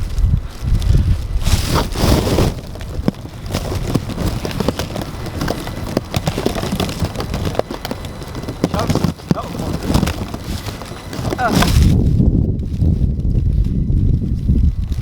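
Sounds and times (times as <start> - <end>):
footsteps crunching through snow: 0.0 - 15.0
wind buffeting microphone: 0.0 - 15.0.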